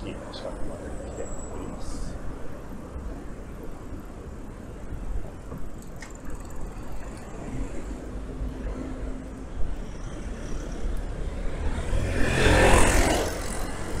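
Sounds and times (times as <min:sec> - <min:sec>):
rumble of passing cars: 0:00.0 - 0:14.0.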